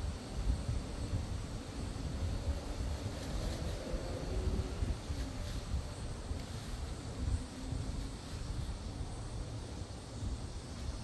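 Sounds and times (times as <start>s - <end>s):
wind gusting over microphone: 0.0s - 11.0s.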